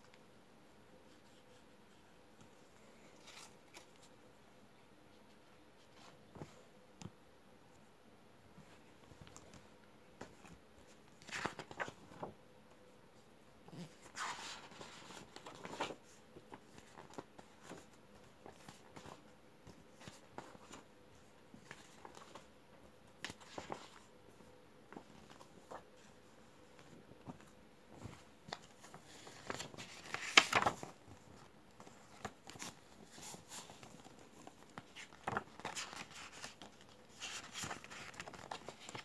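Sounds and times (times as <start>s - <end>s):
paper pages rustling: 1.1s - 4.1s, 8.7s - 12.4s, 13.8s - 22.5s, 23.2s - 39.0s.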